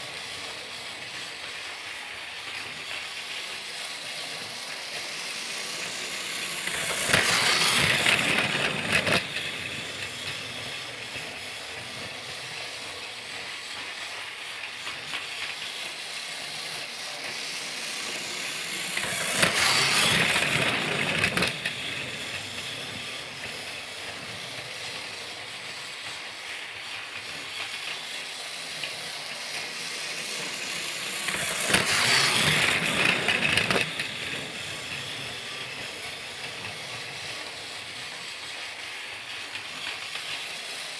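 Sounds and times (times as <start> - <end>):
steam train hissing: 0.0 - 40.9.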